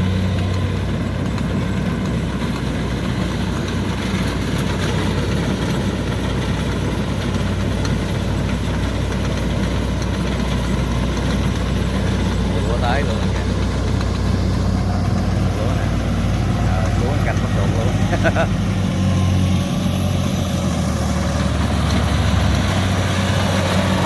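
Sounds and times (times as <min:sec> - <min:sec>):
combine harvester running: 0:00.0 - 0:24.0.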